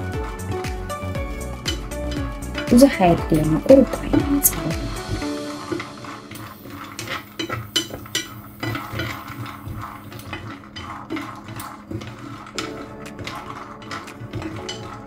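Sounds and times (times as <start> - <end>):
nuts clicking in metal pan: 0.2 - 15.0.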